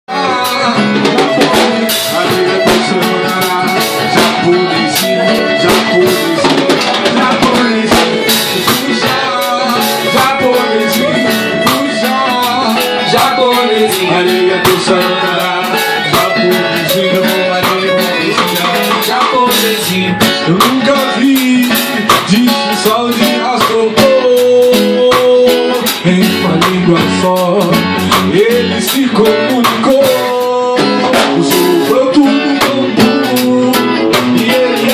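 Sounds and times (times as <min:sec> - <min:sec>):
drum beat: 0:00.1 - 0:34.9
plucked strings: 0:00.1 - 0:34.9.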